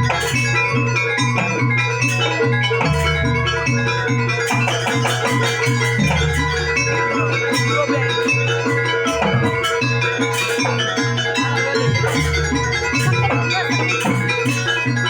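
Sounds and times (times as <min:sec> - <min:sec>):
drum beat: 0:00.0 - 0:15.0
struck metal percussion: 0:00.0 - 0:15.0.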